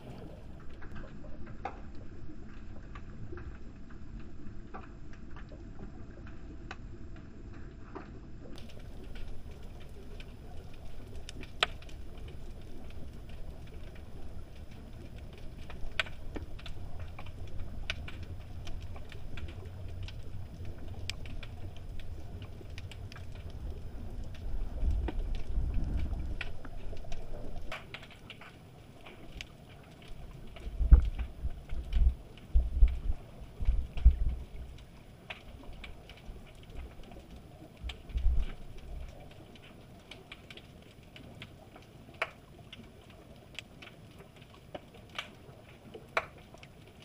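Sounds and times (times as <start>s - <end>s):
underwater low rumble: 0.0s - 47.0s.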